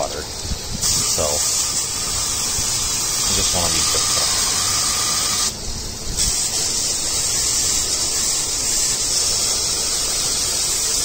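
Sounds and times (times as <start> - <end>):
hose spray nozzle hissing: 0.0 - 11.0.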